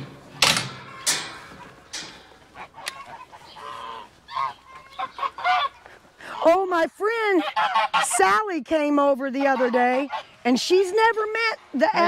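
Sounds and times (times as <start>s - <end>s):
geese honking: 0.0s - 11.6s.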